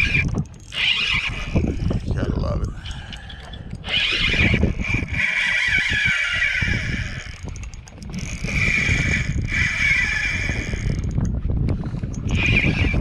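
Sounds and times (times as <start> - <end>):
fishing reel drag buzzing: 0.0 - 11.3, 12.0 - 13.0.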